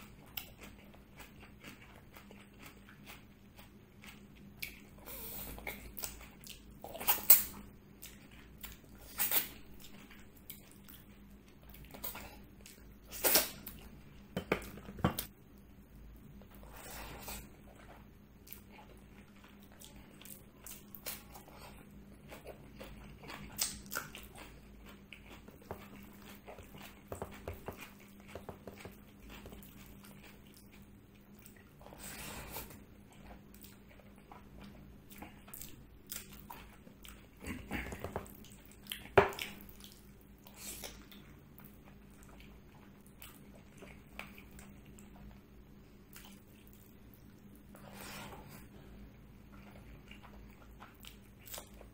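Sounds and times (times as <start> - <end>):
chewing and wet mouth sounds: 0.0 - 51.9
faint steady hum: 0.0 - 51.9.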